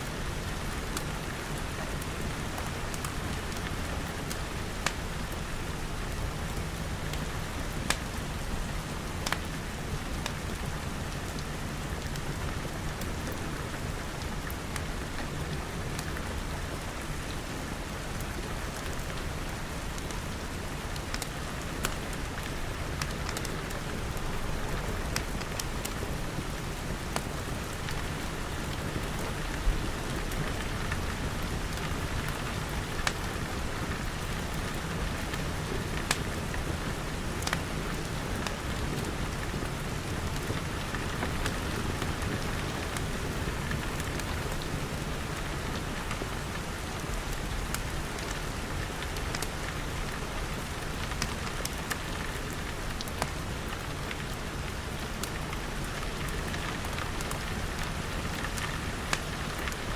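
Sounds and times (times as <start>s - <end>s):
wood fire crackling: 0.1s - 17.2s, 17.9s - 59.9s
rain pattering on glass: 0.2s - 59.9s.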